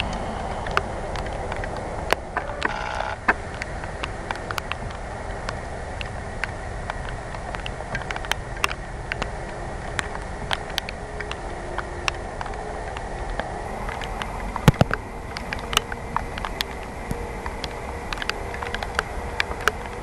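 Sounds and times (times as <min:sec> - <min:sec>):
distant jet engines humming: 0:00.0 - 0:20.0
raindrops ticking on camera: 0:00.0 - 0:20.0.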